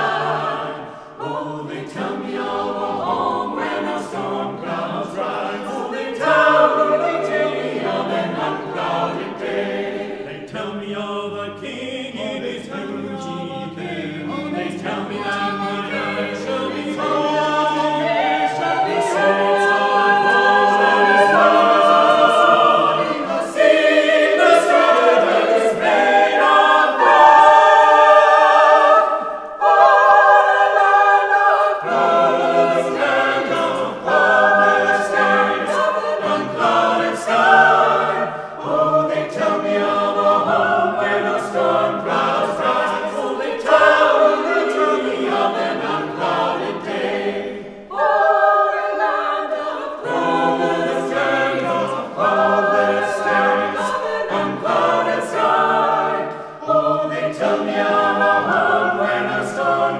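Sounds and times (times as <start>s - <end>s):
choir singing a cappella: 0.0s - 59.9s.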